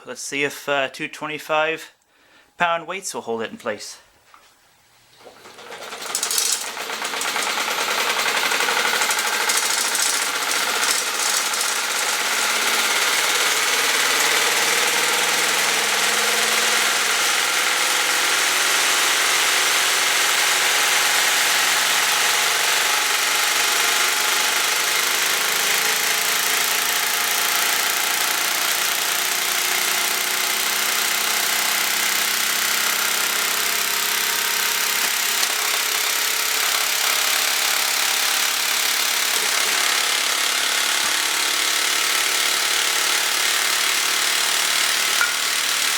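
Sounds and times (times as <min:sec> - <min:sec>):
sewing machine running fast: 0:05.3 - 0:45.9.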